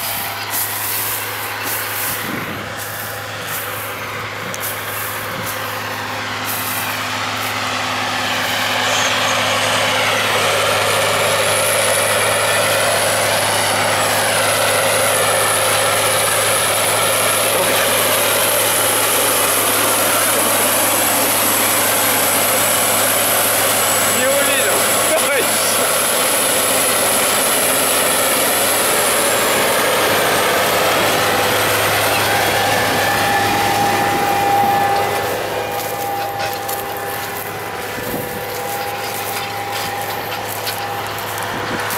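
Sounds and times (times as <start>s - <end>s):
steady high whine: 0.0s - 41.9s
tractor diesel engine under load: 0.0s - 41.9s.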